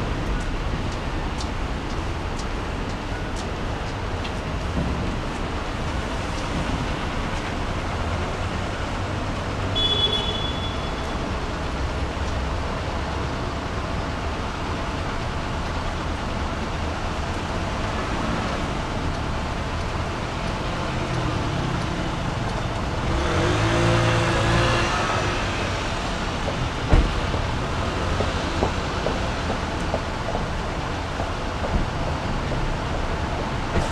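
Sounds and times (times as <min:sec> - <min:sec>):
distant road traffic hum: 0:00.0 - 0:33.9.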